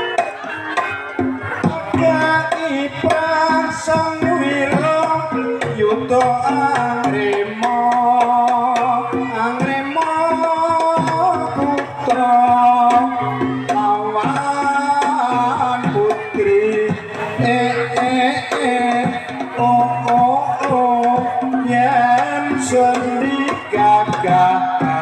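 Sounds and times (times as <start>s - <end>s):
hand drums beating: 0.0s - 25.0s
held melodic tones: 0.0s - 25.0s.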